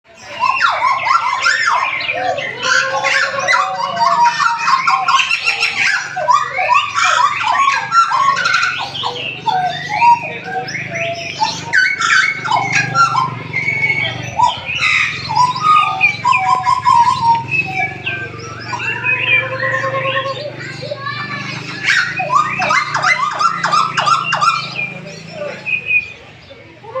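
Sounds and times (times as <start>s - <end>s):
birds singing whistled phrases: 0.1s - 26.8s.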